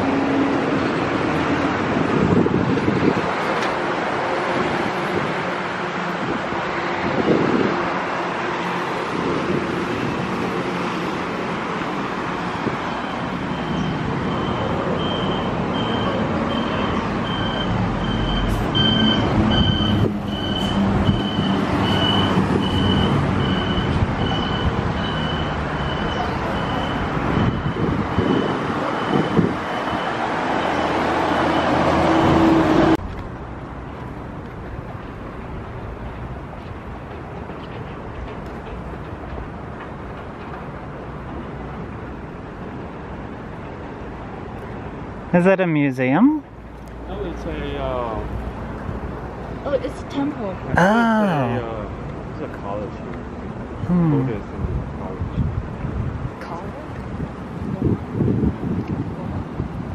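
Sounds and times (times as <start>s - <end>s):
rush of passing cars: 0.0s - 59.9s.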